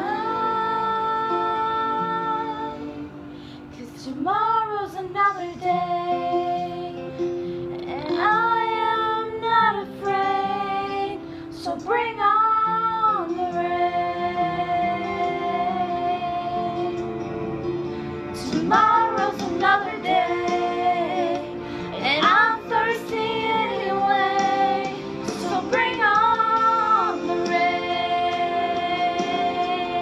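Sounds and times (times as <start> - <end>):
woman singing slow song: 0.0 - 17.2, 18.3 - 30.0
instrumental backing: 0.0 - 30.0.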